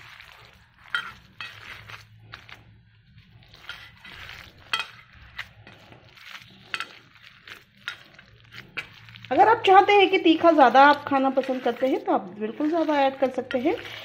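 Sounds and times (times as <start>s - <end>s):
hands squelching wet mixture: 0.0s - 14.0s.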